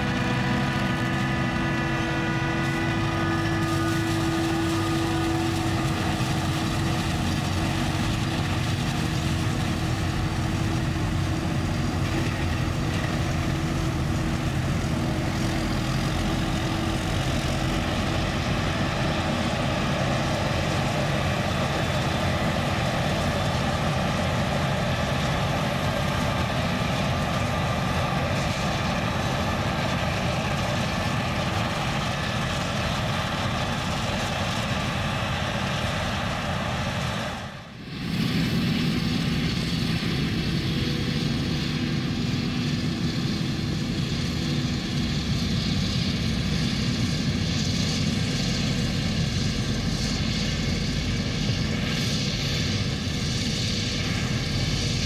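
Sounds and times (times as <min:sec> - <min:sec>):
forage harvester droning: 0:00.0 - 0:55.0.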